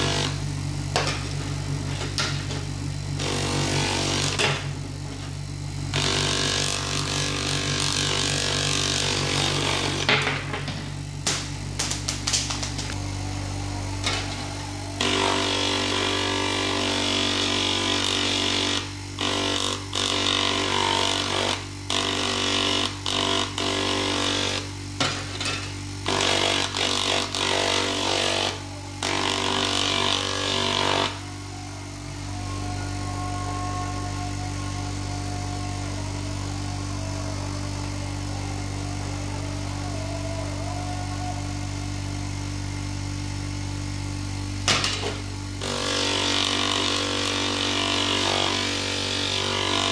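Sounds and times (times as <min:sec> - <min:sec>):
bench grinder motor humming: 0:00.0 - 0:10.4, 0:12.8 - 0:40.0, 0:40.7 - 0:49.9.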